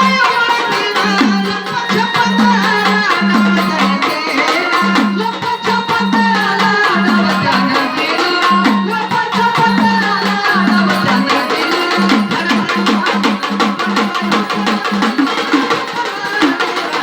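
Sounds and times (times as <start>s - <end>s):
fast folk drum rhythm: 0.0s - 17.0s.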